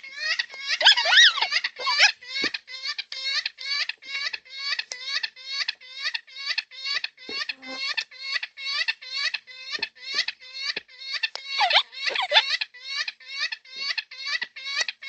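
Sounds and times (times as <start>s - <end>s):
cockatoo squeaky repeated calls: 0.0s - 15.0s.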